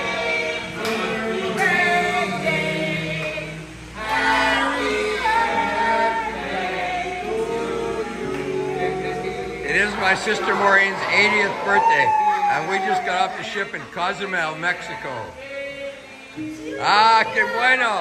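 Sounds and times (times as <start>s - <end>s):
voices singing held notes: 0.0s - 18.0s.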